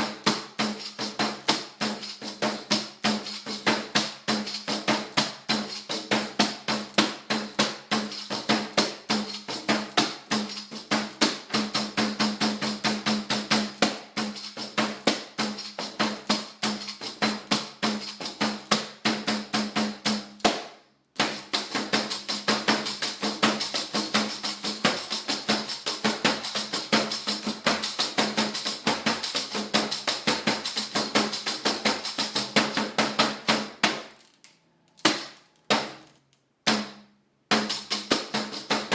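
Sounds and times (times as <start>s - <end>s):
frame drum with jingles playing: 0.0s - 34.2s, 35.0s - 38.9s.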